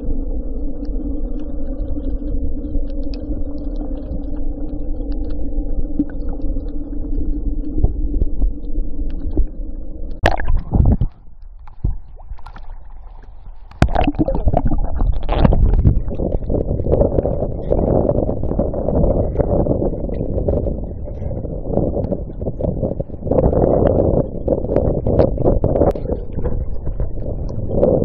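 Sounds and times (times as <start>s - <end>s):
motor running with low rumble: 0.0s - 28.0s.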